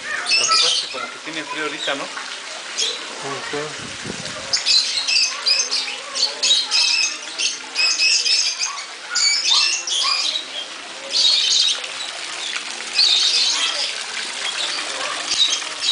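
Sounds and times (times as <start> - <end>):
birds chirping and chattering: 0.0 - 15.9.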